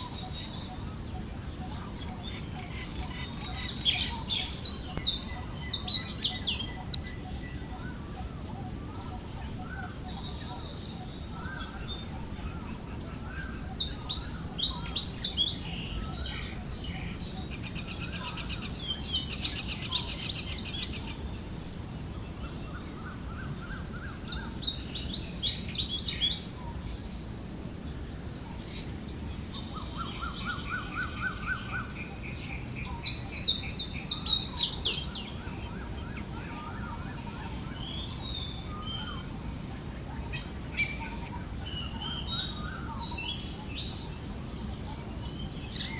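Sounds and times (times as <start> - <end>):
soft breeze: 0.0 - 45.9
songbirds chirping and trilling: 0.0 - 45.9.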